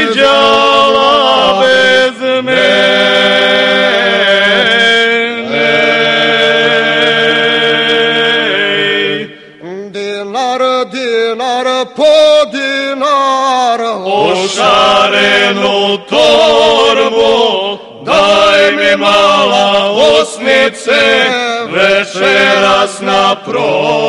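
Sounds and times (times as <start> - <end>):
male vocal group singing in harmony: 0.0 - 24.0.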